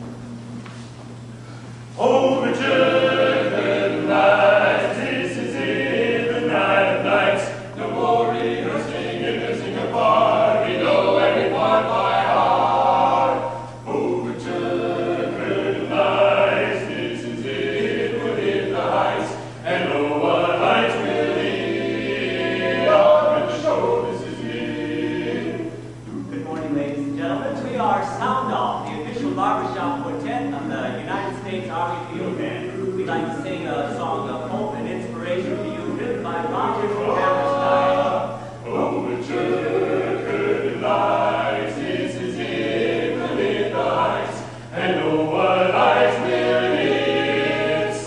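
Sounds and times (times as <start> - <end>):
steady low hum: 0.0 - 48.0
men singing a cappella: 1.9 - 48.0.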